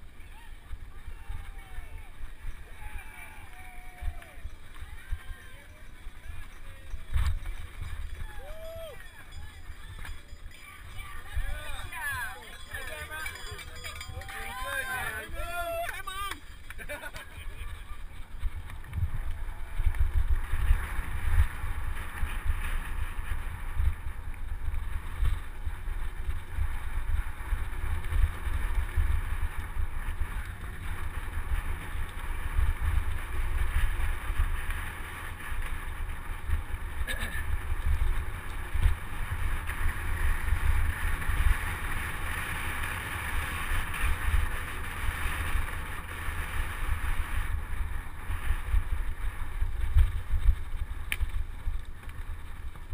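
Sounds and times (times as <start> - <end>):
wind buffeting microphone: 0.6 - 52.9
tyres rolling on dirt: 3.5 - 52.9.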